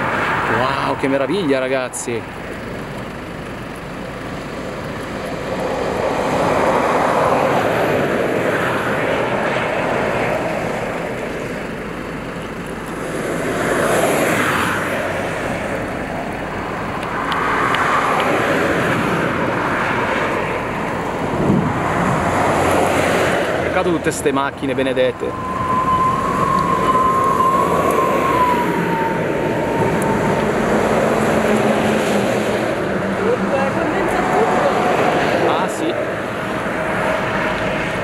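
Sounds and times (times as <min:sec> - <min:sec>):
cars passing: 0:00.0 - 0:38.0.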